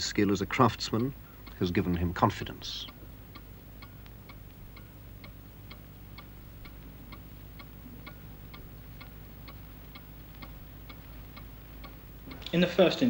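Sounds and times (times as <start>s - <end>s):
faint low hum: 0.0s - 13.0s
mantel clock ticking: 0.0s - 13.0s.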